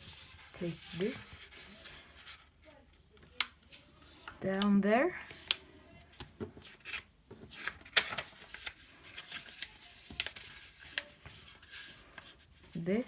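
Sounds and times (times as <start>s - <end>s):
paper being folded and creased: 0.0s - 4.4s, 5.2s - 13.0s.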